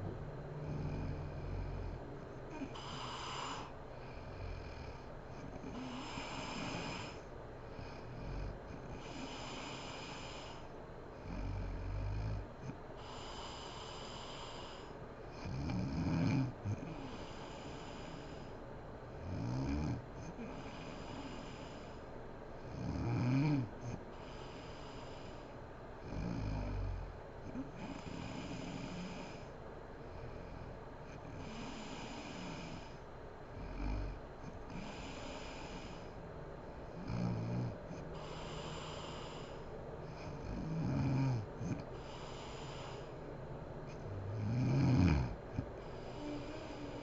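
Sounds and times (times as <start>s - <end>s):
woman snoring: 0.0s - 7.2s, 7.9s - 12.4s, 13.0s - 18.5s, 19.2s - 22.0s, 22.6s - 29.5s, 30.2s - 33.0s, 33.6s - 36.2s, 36.9s - 43.2s, 43.9s - 47.0s
airy breaths: 0.0s - 15.6s, 16.5s - 19.2s, 20.2s - 22.7s, 24.0s - 26.1s, 26.9s - 47.0s.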